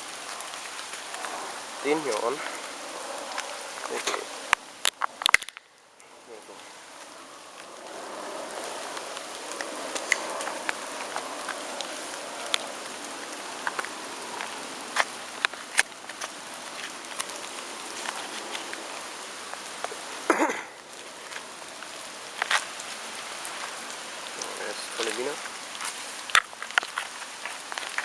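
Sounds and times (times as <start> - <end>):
firework fountain hissing: 0.0 - 26.7
firework crackles and pops: 0.0 - 28.0.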